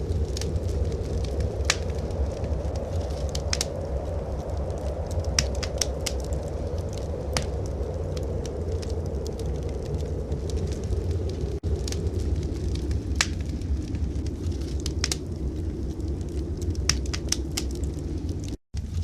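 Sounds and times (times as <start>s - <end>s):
steady low rumble: 0.0s - 19.0s
wood fire crackling: 0.0s - 19.0s.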